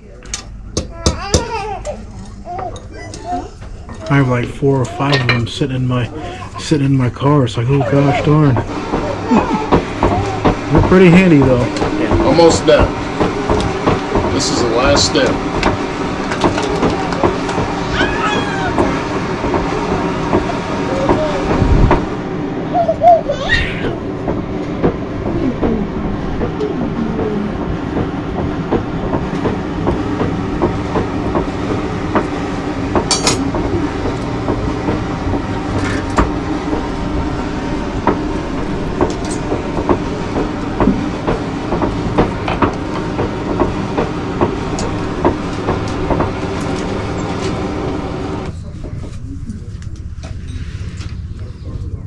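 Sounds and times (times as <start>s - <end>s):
mechanical rumble with low tones: 0.0s - 52.0s.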